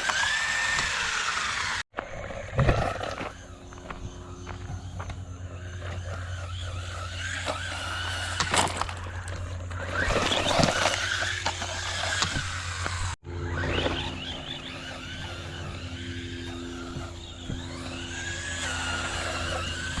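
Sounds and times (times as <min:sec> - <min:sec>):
rc truck motor whine: 0:00.0 - 0:20.0.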